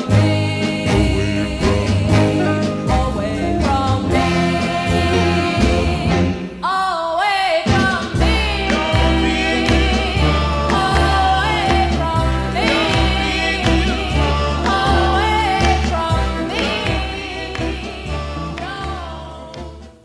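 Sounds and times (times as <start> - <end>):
woman singing pop-soul song: 0.0 - 19.6.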